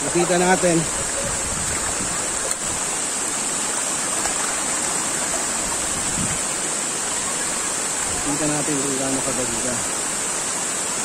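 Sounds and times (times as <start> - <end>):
stream running over rocks: 0.0 - 11.0
waterfall rushing into pool: 0.0 - 11.0.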